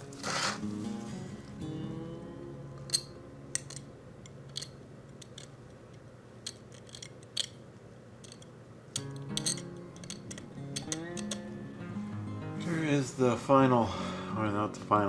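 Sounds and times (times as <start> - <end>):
faint background music: 0.0 - 5.5, 8.2 - 15.0.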